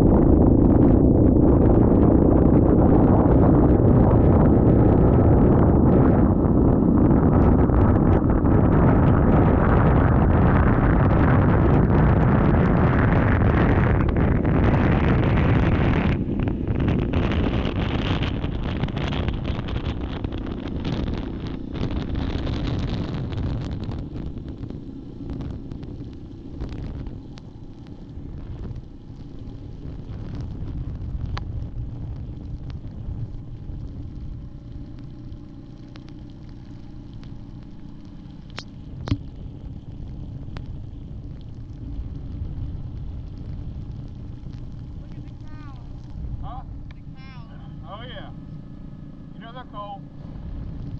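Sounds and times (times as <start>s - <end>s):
atv engine running: 0.0s - 50.9s
wind buffeting microphone: 0.0s - 50.9s.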